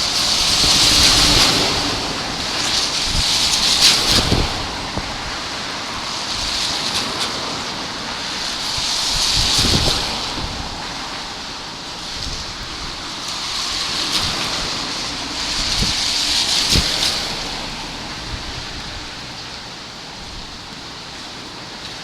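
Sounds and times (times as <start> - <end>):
wind on microphone: 0.0 - 21.7.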